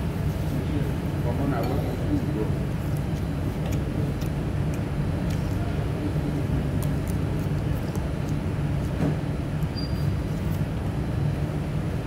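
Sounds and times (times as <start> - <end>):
dining hall background rumble: 0.0 - 12.0.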